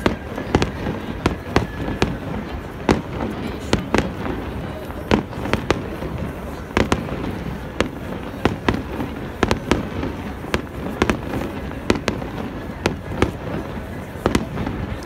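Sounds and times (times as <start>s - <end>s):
fireworks bursting bangs: 0.0s - 15.0s.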